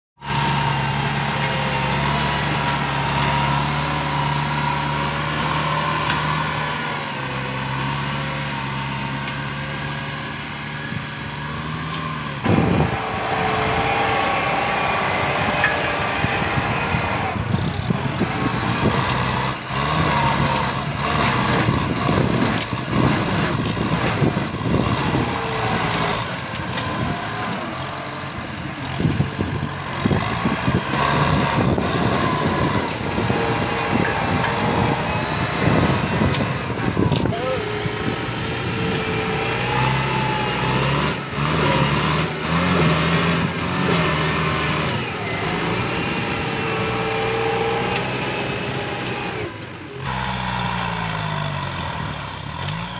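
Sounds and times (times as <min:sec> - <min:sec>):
tractor diesel engine under load: 0:00.2 - 0:52.9.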